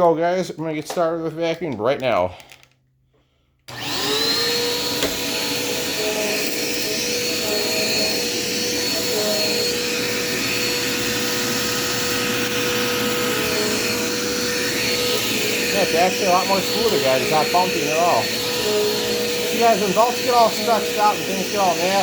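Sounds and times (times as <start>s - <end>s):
upright vacuum cleaner running: 3.7s - 22.0s.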